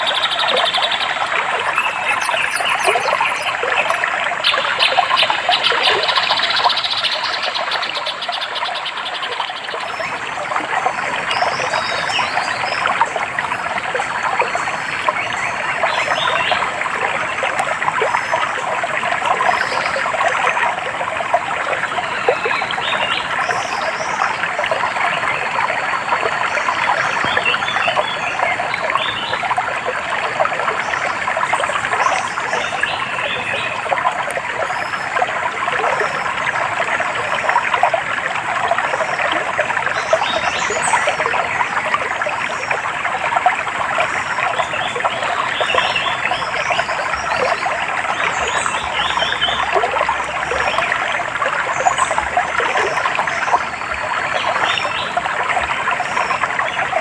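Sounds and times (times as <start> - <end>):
stream trickling and babbling: 0.0 - 57.0.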